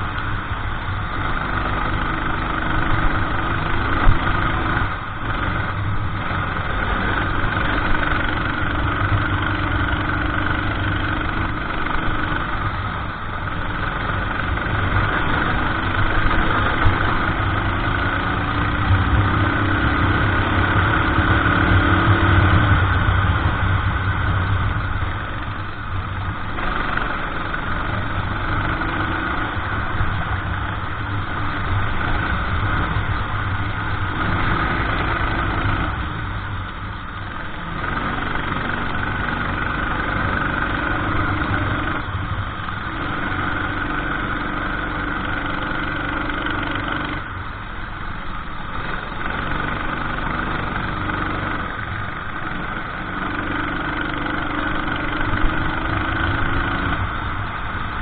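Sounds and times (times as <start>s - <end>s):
kart engine revving: 1.0s - 58.0s.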